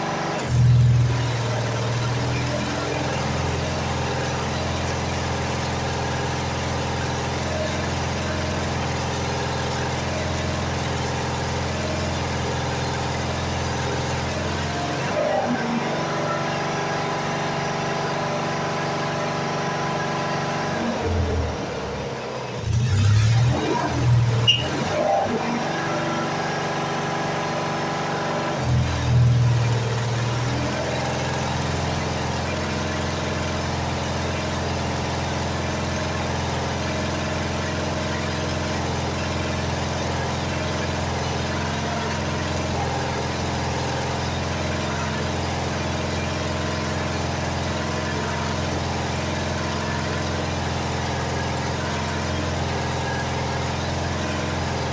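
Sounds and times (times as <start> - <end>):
welder engine running: 0.0 - 54.9.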